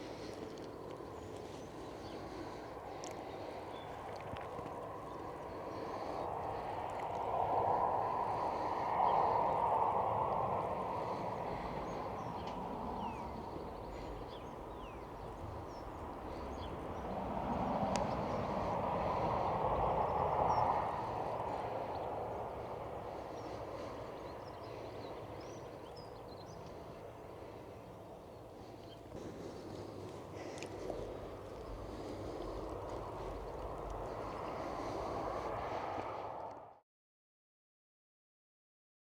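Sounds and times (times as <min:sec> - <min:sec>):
distant vehicles passing: 0:00.0 - 0:36.8.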